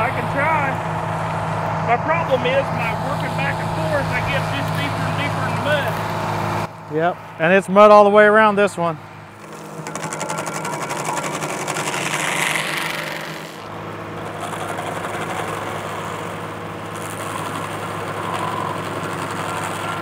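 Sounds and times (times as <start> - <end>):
stump grinder grinding wood: 0.0 - 20.0
tractor diesel engine running: 0.0 - 20.0.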